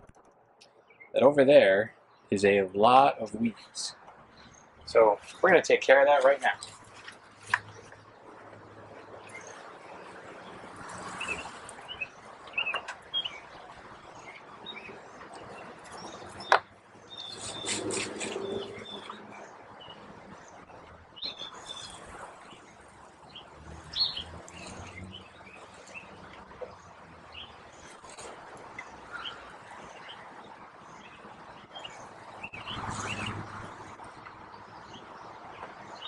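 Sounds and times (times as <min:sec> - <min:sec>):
small birds chirping: 0:00.6 - 0:36.0.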